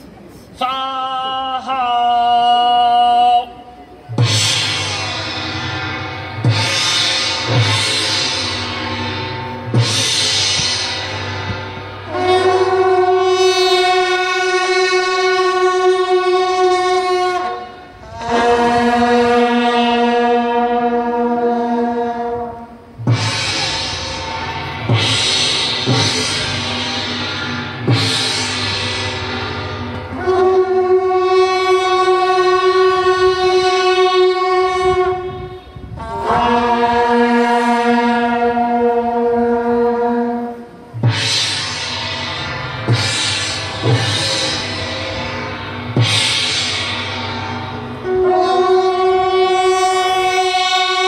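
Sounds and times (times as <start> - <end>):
brass horns long notes: 4.2 - 51.0.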